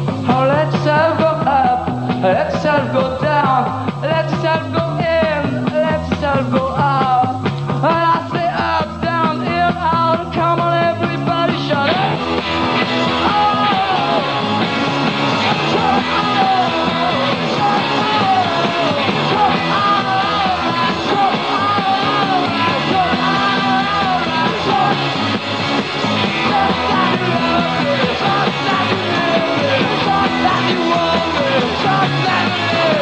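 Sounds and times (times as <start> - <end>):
punk rock band playing: 0.0 - 33.0
wavering lead guitar line: 0.0 - 33.0.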